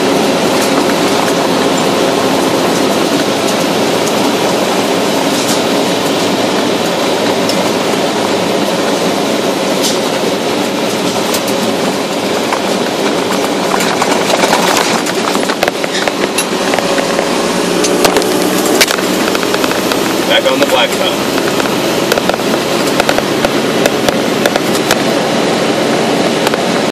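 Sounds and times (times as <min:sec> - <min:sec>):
car tyres crunching on gravel: 0:00.0 - 0:26.9.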